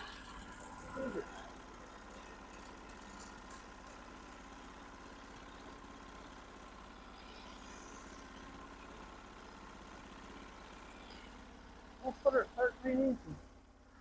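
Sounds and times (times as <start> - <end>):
sawmill engine idling: 0.0 - 14.0.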